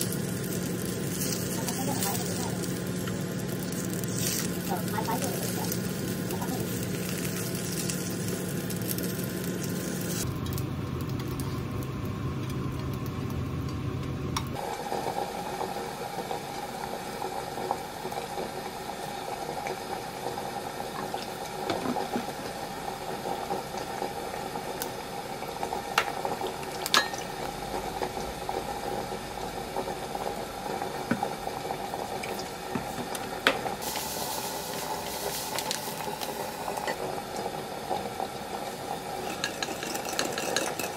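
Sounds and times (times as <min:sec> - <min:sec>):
dumplings frying in pan: 0:00.0 - 0:13.7, 0:14.5 - 0:40.9.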